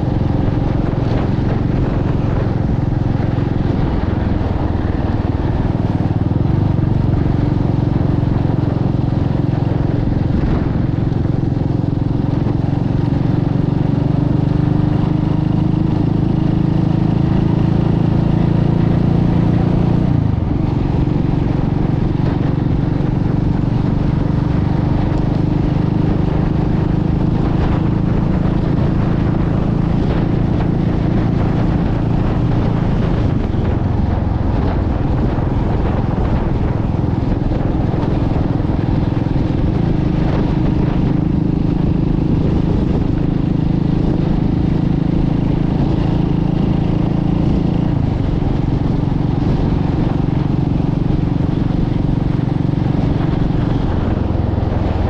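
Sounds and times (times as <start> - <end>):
motorcycle engine cruising: 0.0 - 55.0
wind rush: 0.0 - 55.0.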